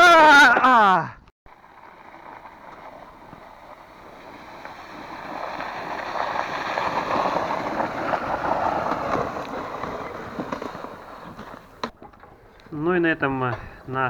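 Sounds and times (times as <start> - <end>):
plastic sled scraping on snow: 1.5 - 14.0.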